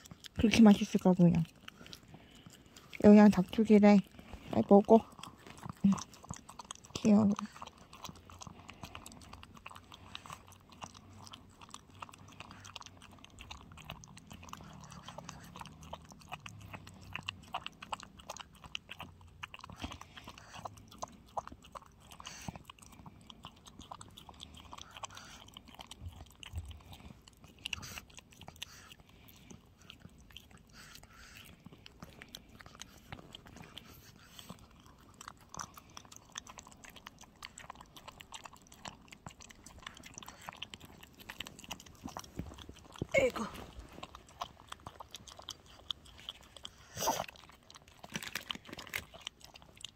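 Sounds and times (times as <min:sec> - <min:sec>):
dog chewing wet food: 0:00.0 - 0:49.9.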